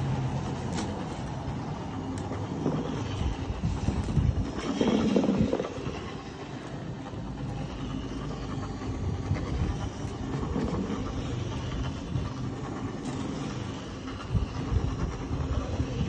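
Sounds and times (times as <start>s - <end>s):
floor scrubber motor hum: 0.0s - 16.0s.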